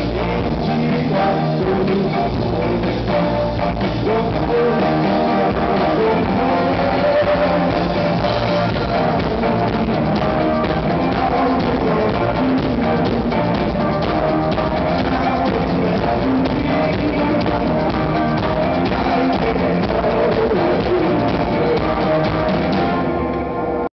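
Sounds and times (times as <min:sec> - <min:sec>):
rock band playing live: 0:00.0 - 0:23.9.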